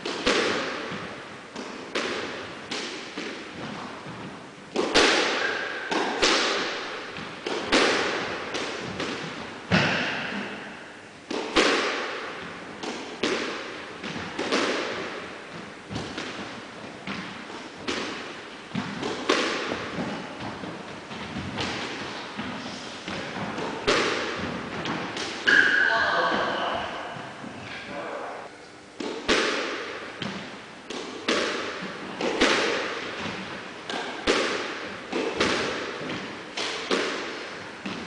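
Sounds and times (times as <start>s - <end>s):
squash ball hits echoing: 0.0s - 27.6s, 29.0s - 38.0s.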